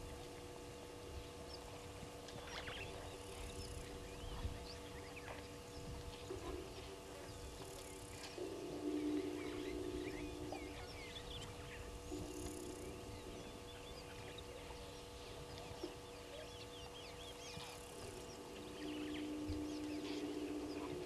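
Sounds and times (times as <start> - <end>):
low steady hum: 0.0 - 21.0
birds chirping and calling: 2.4 - 21.0.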